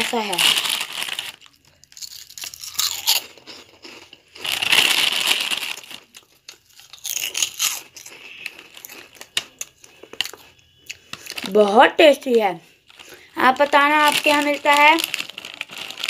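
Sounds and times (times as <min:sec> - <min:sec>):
plastic snack packet crinkling: 0:00.0 - 0:16.0.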